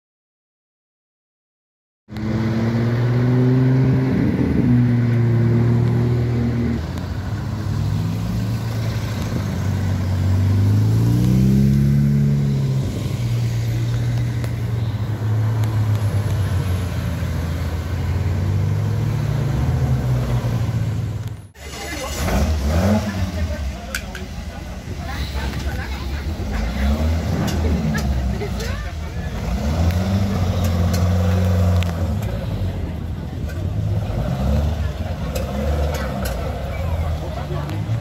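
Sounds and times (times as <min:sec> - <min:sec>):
car revving: 0:02.1 - 0:38.0
sports car engines: 0:02.1 - 0:38.0.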